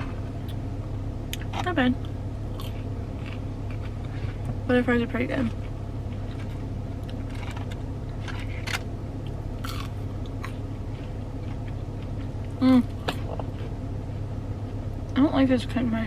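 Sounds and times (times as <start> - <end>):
steady low hum: 0.0 - 16.0
chewing crunchy food: 1.3 - 4.6, 5.4 - 15.2.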